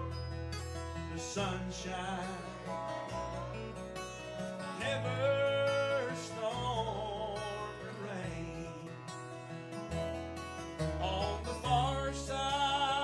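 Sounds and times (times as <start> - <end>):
country music with singing: 0.0 - 13.0.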